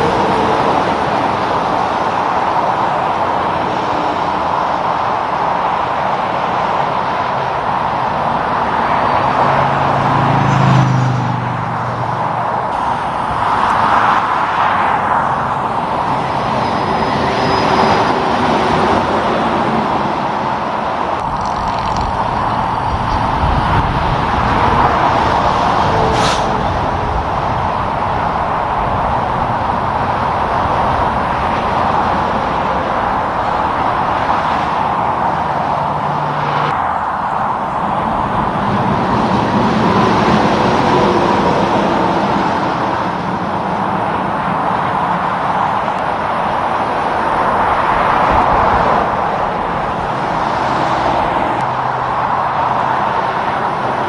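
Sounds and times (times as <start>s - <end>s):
vehicles passing on road: 0.0s - 54.0s.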